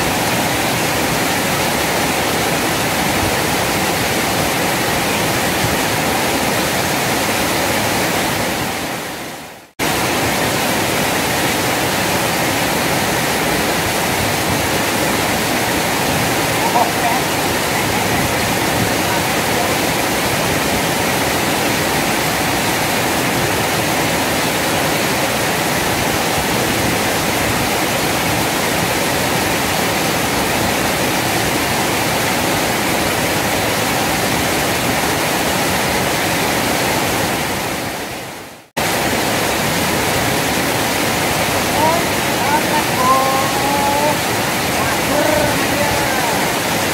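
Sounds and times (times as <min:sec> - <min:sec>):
water rushing over weir: 0:00.0 - 0:46.9.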